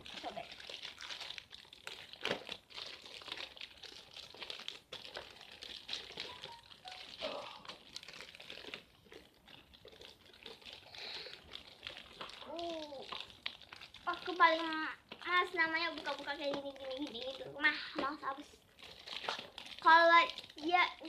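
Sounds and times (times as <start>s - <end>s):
toy packaging crinkling: 0.0s - 21.0s.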